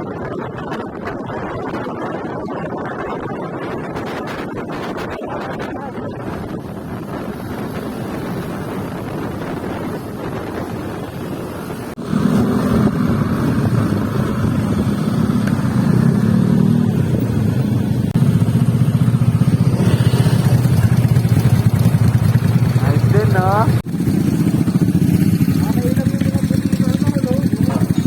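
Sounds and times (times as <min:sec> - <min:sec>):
motorcycle engine running: 0:00.0 - 0:28.0
steady rushing noise: 0:00.0 - 0:28.0.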